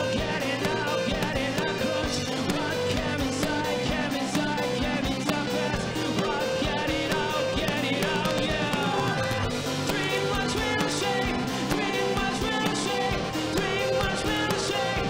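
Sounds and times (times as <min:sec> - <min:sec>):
drums: 0:00.0 - 0:15.0
electric guitar: 0:00.0 - 0:15.0
keyboards: 0:00.0 - 0:15.0
male singer: 0:00.0 - 0:15.0.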